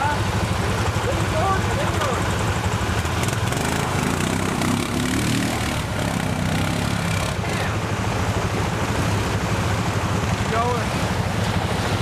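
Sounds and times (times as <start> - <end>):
atv engine running: 0.0 - 12.0
tyres splashing water: 0.0 - 12.0.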